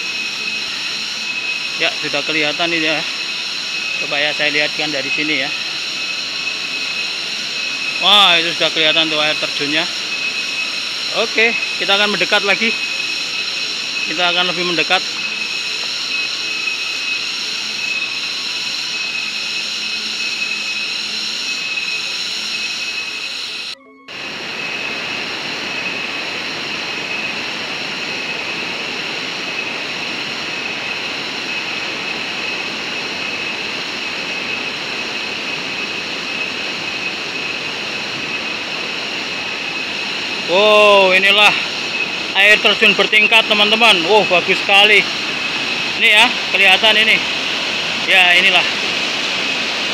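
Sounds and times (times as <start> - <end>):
high steady buzz: 0.0 - 49.9.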